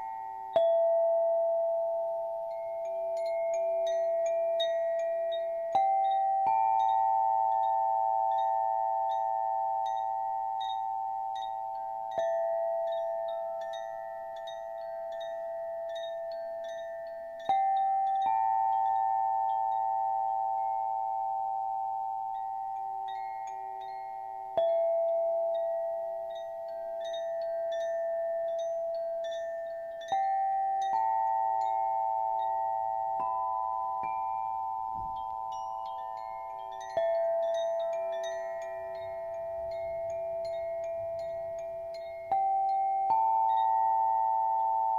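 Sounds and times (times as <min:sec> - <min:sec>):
crystal instrument ringing tones: 0:00.0 - 0:44.9
high chimes tinkling: 0:00.0 - 0:44.9.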